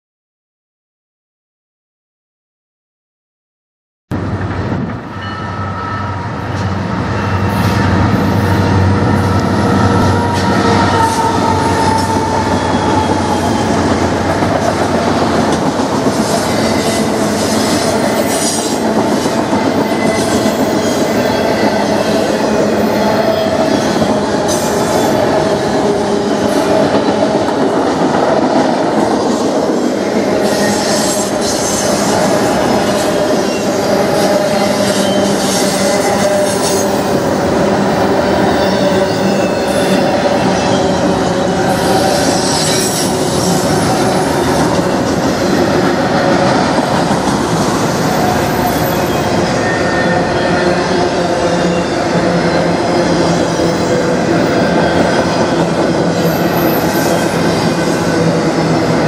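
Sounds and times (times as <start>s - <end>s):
train cars rumbling and rattling: 4.2s - 59.0s.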